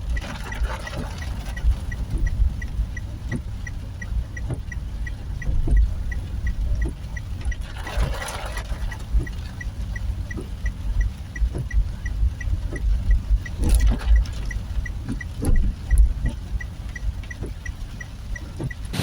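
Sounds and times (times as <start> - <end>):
regular ticking: 0.0 - 19.0
rushing rain water: 0.0 - 19.0.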